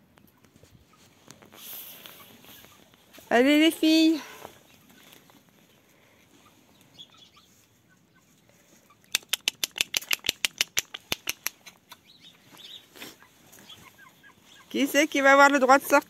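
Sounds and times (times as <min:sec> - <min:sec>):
hens clucking: 0:00.2 - 0:16.0.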